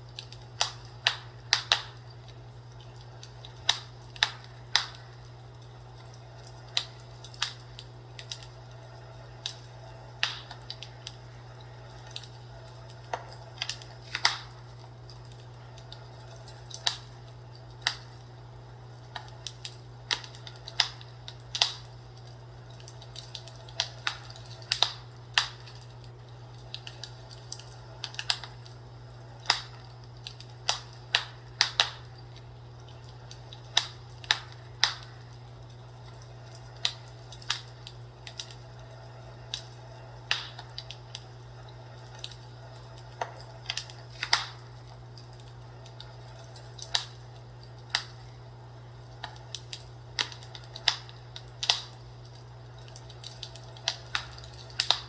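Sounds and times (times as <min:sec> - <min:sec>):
fireplace fire crackling: 0:00.0 - 0:55.0
steady low hum: 0:00.0 - 0:55.0.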